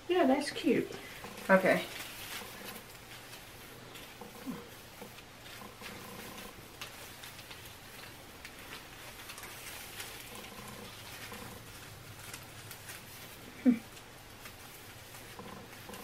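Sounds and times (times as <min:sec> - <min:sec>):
tinsel rustling and crinkling: 0:00.1 - 0:16.0.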